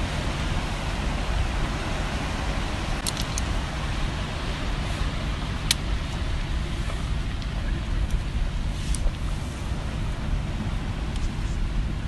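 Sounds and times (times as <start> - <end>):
sea washing: 0.0 - 12.0
wind rumbling on microphone: 0.0 - 12.0.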